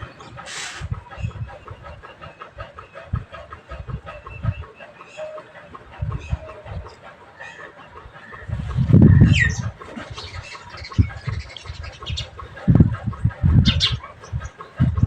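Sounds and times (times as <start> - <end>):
birds calling: 0.0 - 15.0
low rumbling gusts: 0.0 - 15.0.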